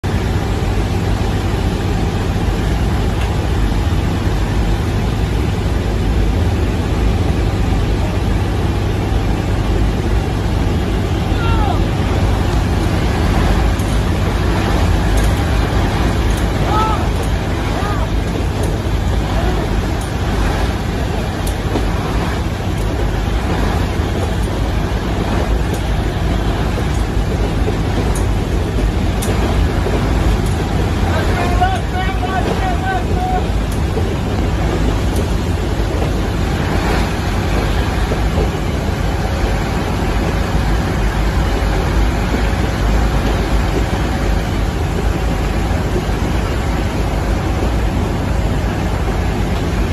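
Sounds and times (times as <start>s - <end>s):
aircraft engine and airflow noise: 0.0s - 49.9s
rushing wind: 0.0s - 49.9s.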